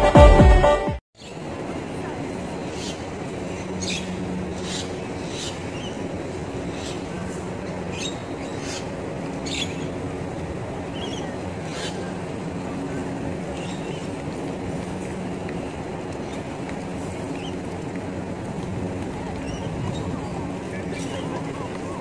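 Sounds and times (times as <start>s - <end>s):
low drone of traffic: 1.2s - 22.0s.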